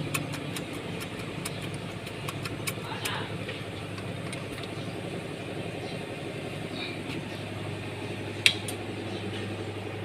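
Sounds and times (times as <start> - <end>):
tractor engine idling: 0.0 - 10.0.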